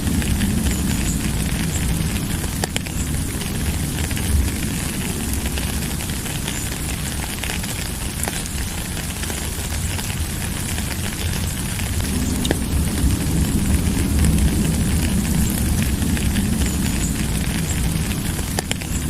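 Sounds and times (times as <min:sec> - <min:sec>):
low rumble: 0:00.0 - 0:19.0
steady rain hiss: 0:00.0 - 0:19.0.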